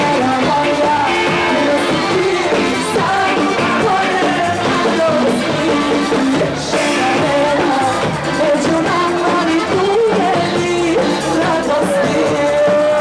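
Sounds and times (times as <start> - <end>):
drums: 0.0 - 13.0
electric guitar: 0.0 - 13.0
woman singing into microphone: 0.0 - 13.0.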